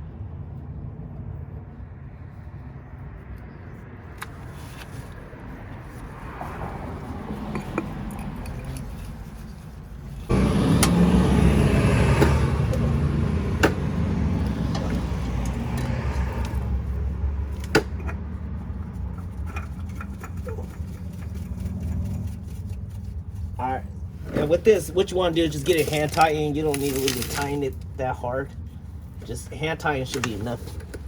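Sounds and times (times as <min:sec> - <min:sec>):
motor vehicle rumbling: 0:00.0 - 0:31.0.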